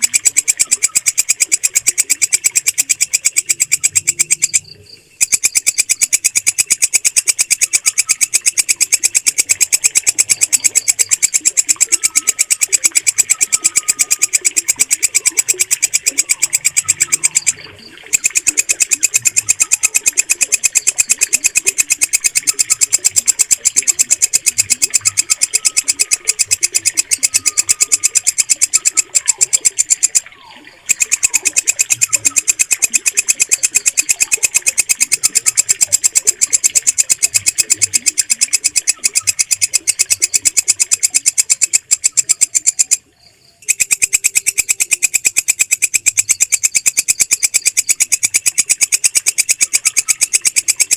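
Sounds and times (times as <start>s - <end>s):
katydid rapid clicking: 0.0s - 50.9s.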